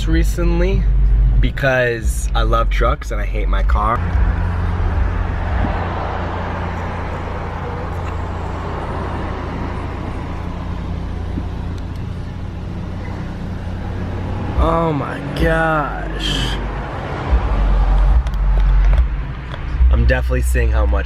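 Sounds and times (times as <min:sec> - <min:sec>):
vehicle road noise: 0:00.0 - 0:21.0.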